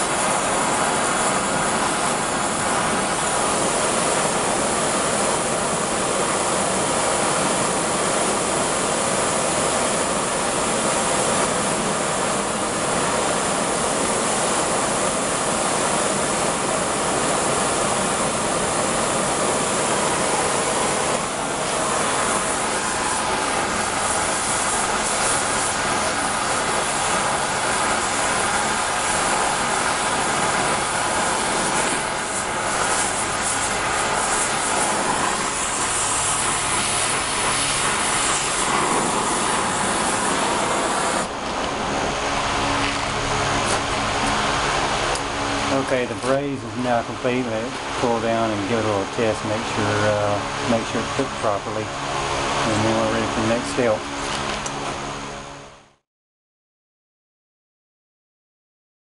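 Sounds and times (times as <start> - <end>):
gas torch flame hissing: 0.0 - 51.8.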